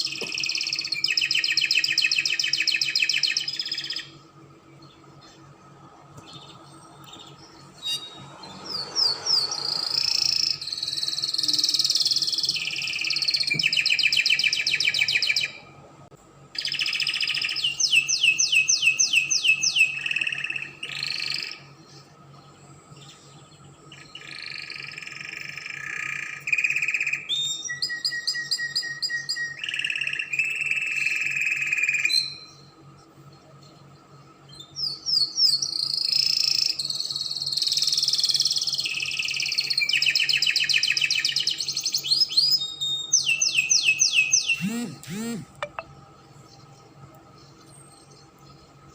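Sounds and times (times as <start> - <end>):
canary singing trills: 0.0 - 5.6, 6.2 - 15.7, 16.5 - 48.9.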